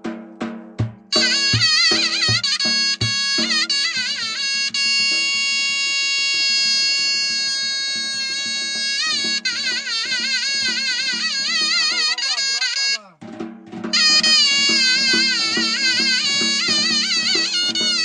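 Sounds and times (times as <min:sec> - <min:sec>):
drum beats: 0:00.0 - 0:18.0
reedy wind instrument melody: 0:01.1 - 0:13.2, 0:13.9 - 0:18.0.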